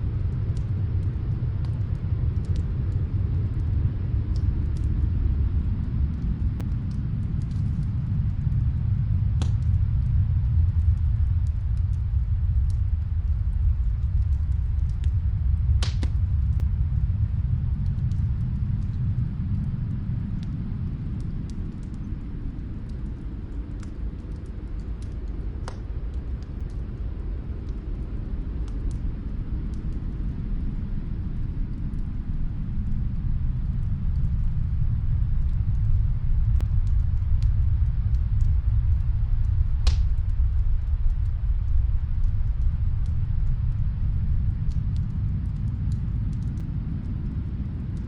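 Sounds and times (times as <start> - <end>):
fireplace crackles and pops: 0.0 - 48.0
wind rumbling: 0.0 - 48.0.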